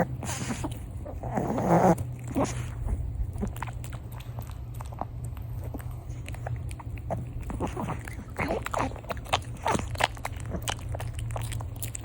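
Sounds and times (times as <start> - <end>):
dog crunching and chewing: 0.0 - 12.0.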